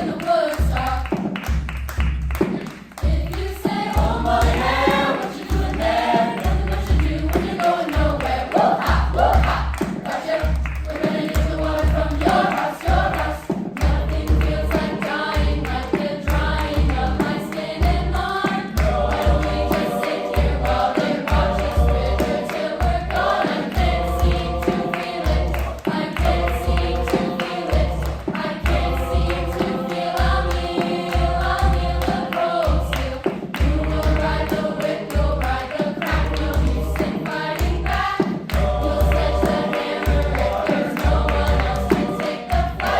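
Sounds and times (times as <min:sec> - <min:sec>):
choir singing in parts: 0:00.0 - 0:42.9.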